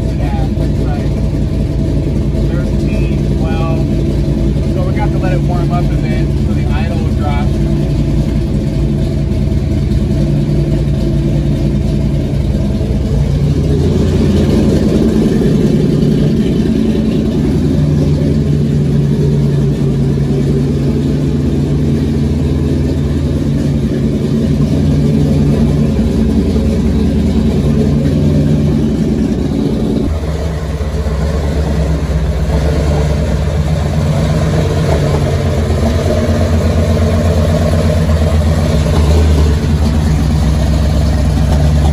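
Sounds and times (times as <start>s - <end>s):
loud engine running: 0.0s - 41.9s.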